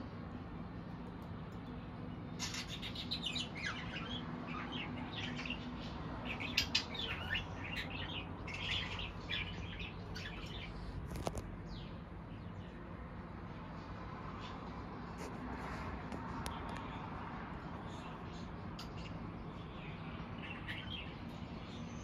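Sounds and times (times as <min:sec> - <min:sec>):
small birds chirping: 0:00.1 - 0:13.2, 0:14.3 - 0:22.0.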